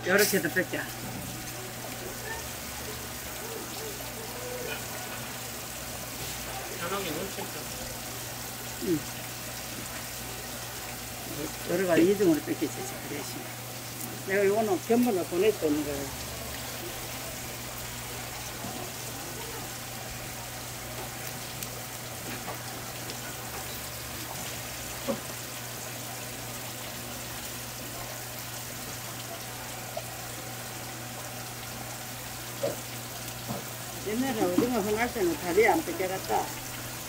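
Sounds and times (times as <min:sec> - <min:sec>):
running water hiss: 0:00.0 - 0:37.0.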